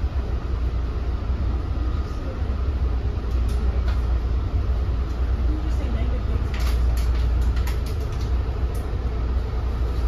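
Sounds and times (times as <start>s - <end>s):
train wheels rumbling on track: 0.0s - 10.0s.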